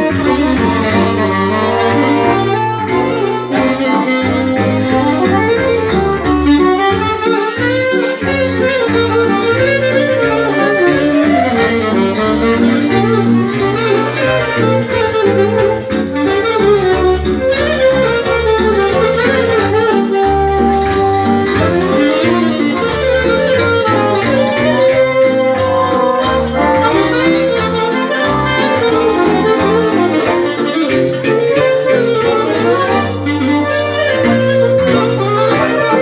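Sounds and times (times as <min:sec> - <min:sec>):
accordion: 0:00.0 - 0:36.0
band beat and bass line: 0:00.0 - 0:36.0
saxophone melody: 0:00.0 - 0:36.0.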